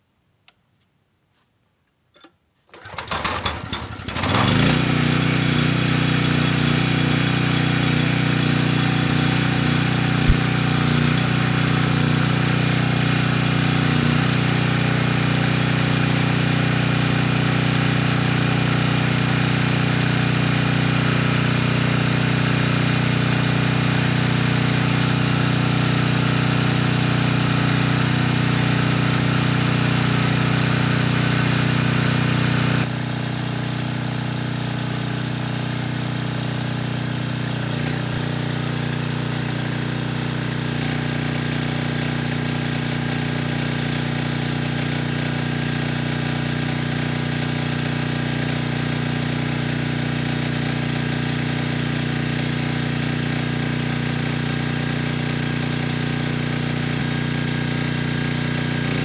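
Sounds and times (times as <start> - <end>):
generator engine pull-started: 2.2 - 59.0
generator engine running steadily: 2.8 - 59.0.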